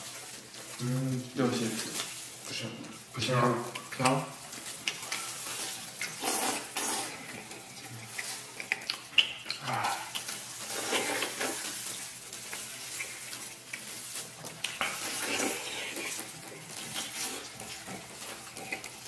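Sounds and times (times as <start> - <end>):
wet chewing and biting: 3.6 - 19.0.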